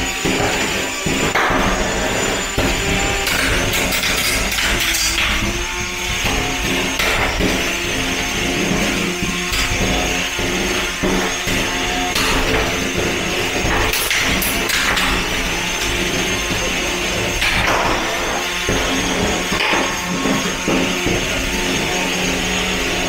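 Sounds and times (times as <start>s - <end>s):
small drive motors: 0.0s - 23.0s.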